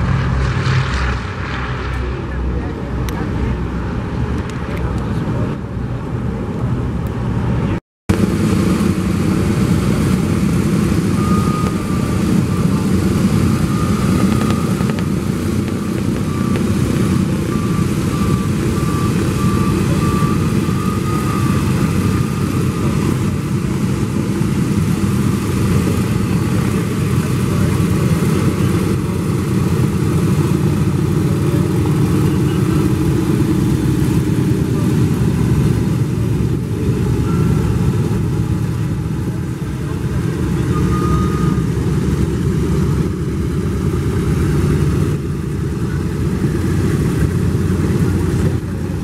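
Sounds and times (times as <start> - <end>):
propeller piston engines rumbling: 0.0 - 49.0.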